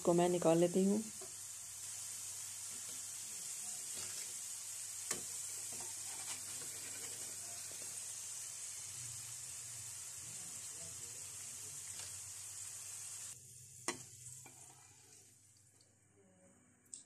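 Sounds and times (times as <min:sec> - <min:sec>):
fries sizzling in hot oil: 0:00.0 - 0:15.7.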